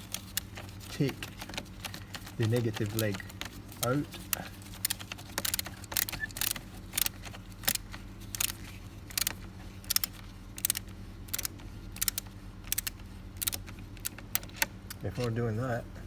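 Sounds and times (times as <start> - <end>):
ratchet clicking: 0.0 - 15.3.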